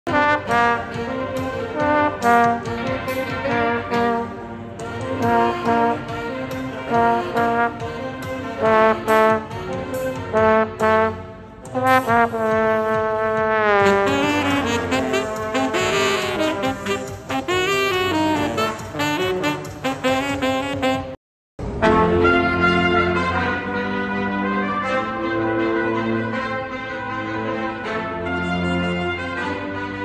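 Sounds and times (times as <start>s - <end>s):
street band with saxophones and trombone: 0.1s - 30.0s.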